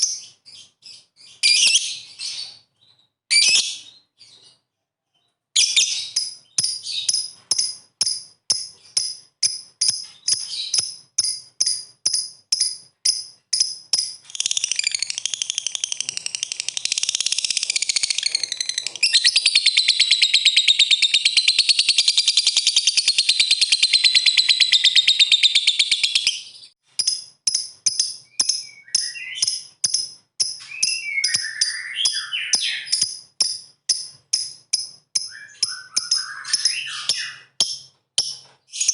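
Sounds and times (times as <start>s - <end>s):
lovebird chirping and trilling: 0.0s - 4.6s, 5.2s - 38.9s.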